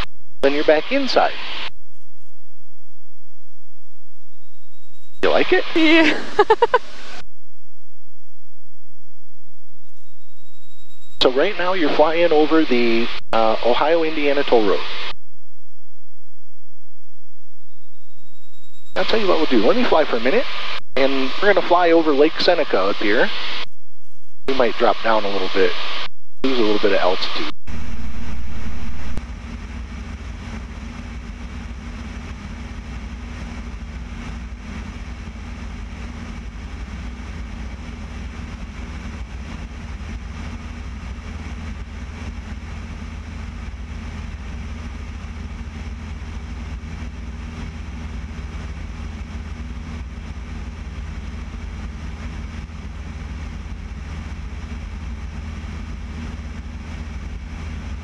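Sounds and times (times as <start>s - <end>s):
airplane engine and propeller drone: 0.0s - 1.7s, 4.4s - 7.2s, 9.9s - 15.2s, 17.8s - 23.7s, 24.5s - 58.0s.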